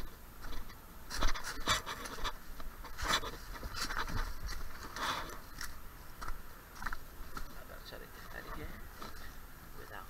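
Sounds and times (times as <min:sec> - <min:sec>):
footsteps crunching dry leaves: 0:00.4 - 0:09.4.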